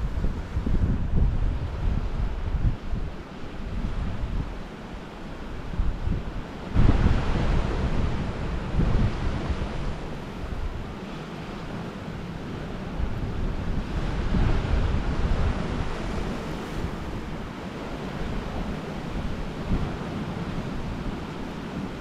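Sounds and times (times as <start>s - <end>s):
ocean surf against shore: 0.0s - 22.0s
wind buffeting microphone: 0.0s - 22.0s.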